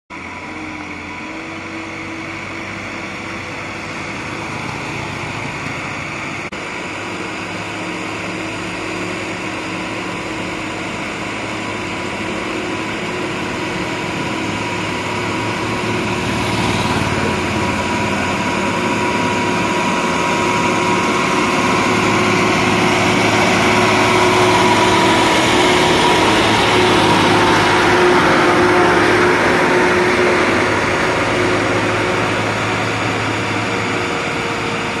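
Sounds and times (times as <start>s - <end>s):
lorry diesel engine running: 0.1s - 35.0s.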